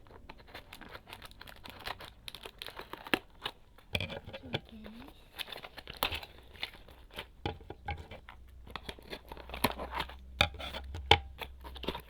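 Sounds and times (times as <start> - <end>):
packaging crinkling and tearing: 0.0 - 7.4, 8.2 - 12.0.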